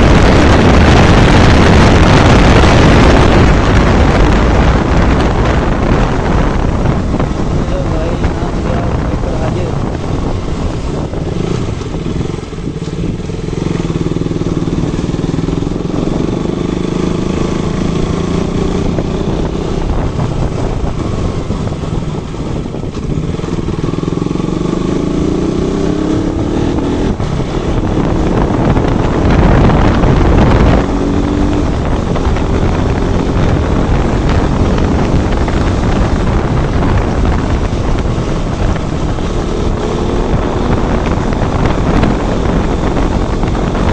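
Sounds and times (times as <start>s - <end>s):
motorcycle engine revving: 0.0s - 43.9s
wind rush on microphone: 0.0s - 43.9s.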